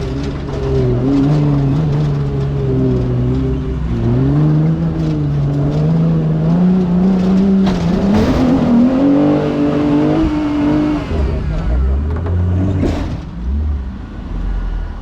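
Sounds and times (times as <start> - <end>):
race vehicle engine accelerating: 0.0 - 15.0.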